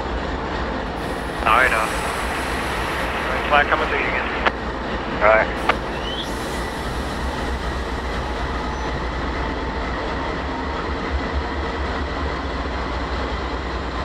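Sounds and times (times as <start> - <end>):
locomotive engine rumbling: 0.4 - 12.2.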